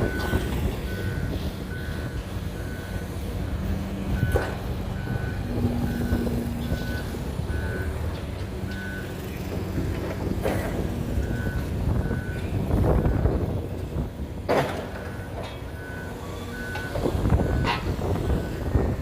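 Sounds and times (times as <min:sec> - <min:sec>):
reversing alarm beeping: 0:00.0 - 0:09.4, 0:10.9 - 0:13.6, 0:14.8 - 0:19.0
diesel engine drone: 0:00.0 - 0:19.0.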